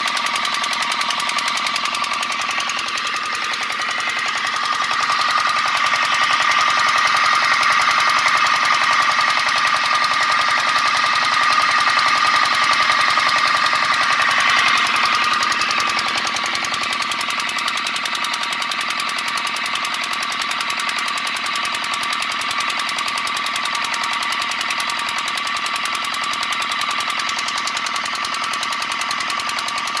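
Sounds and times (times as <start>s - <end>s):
engine running with ticking knock: 0.0s - 30.0s.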